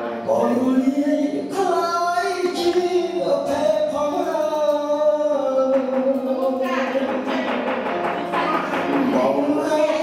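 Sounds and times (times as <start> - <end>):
musical accompaniment: 0.0 - 10.0.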